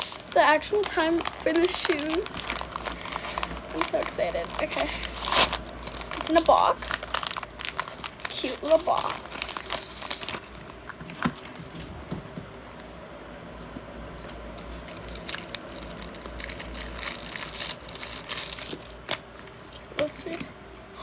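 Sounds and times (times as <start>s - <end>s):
packaging crinkling: 0.0s - 11.8s, 13.6s - 20.4s.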